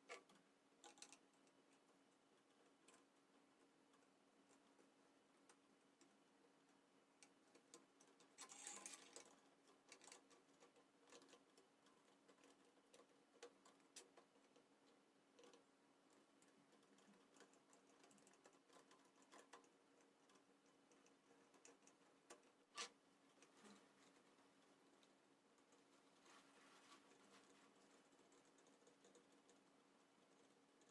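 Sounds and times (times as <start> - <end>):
faint steady hum: 0.0 - 30.9
light clicks and taps: 0.0 - 30.9.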